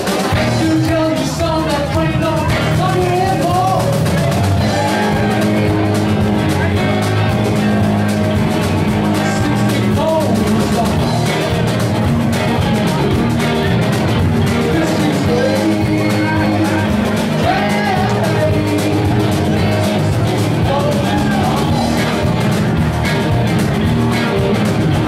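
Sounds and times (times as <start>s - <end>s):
drum kit: 0.0s - 25.0s
electric guitars: 0.0s - 25.0s.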